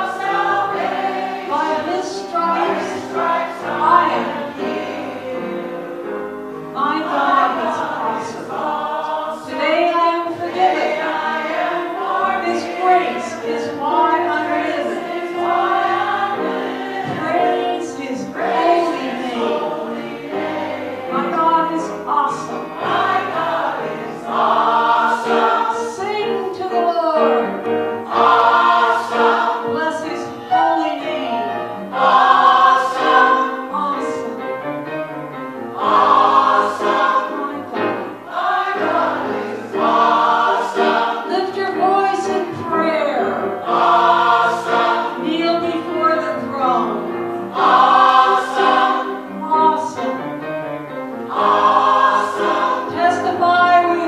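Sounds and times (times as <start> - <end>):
gospel choir singing: 0.0 - 54.0.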